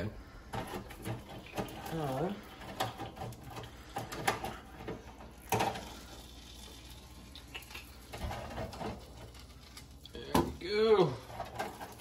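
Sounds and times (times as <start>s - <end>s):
frying oil hissing: 0.0s - 12.0s.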